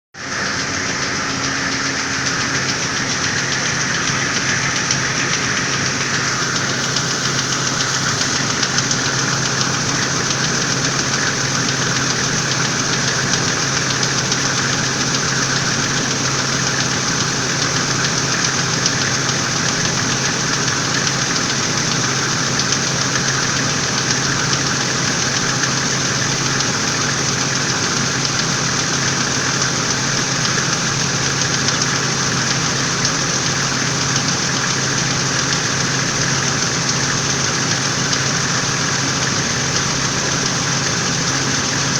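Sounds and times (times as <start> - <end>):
car engine idling: 0.2 - 41.9.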